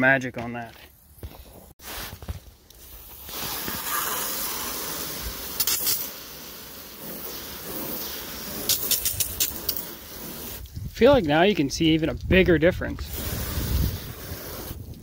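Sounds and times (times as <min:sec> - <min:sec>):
hose spray hissing: 0:01.8 - 0:12.0, 0:12.9 - 0:15.0.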